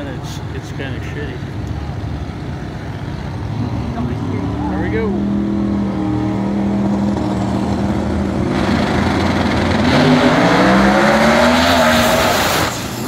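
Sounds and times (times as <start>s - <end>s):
drag race cars engine roar: 0.0s - 13.0s.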